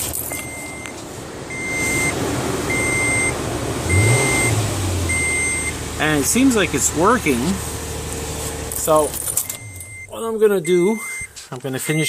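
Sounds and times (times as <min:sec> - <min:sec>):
car engine running: 0:00.0 - 0:12.0
vehicle warning chime beeping: 0:00.0 - 0:12.0.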